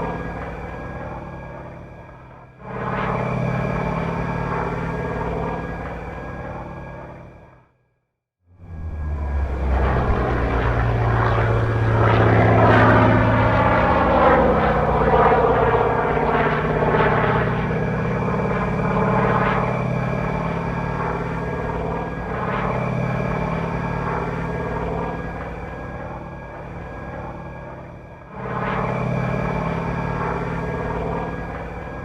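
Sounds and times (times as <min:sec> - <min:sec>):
model airplane engine sound: 0:00.0 - 0:07.5, 0:08.6 - 0:32.0
propeller whine: 0:00.0 - 0:07.6, 0:08.5 - 0:32.0.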